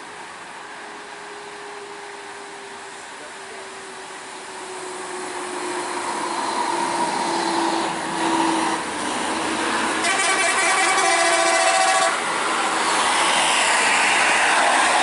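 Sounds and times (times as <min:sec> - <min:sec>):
bus engine: 0:00.0 - 0:15.0.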